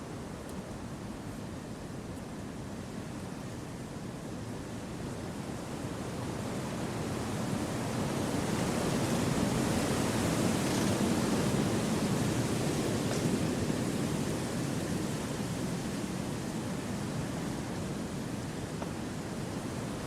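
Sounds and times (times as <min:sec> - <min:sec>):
wind through forest trees: 0:00.0 - 0:20.0.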